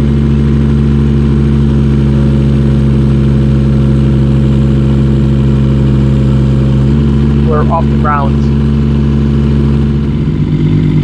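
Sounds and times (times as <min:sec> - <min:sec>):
diesel engine at full throttle: 0:00.0 - 0:11.0.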